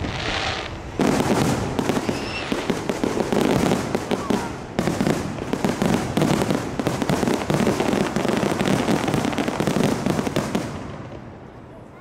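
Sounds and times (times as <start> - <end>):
fireworks bangs and crackling: 0.0 - 11.8.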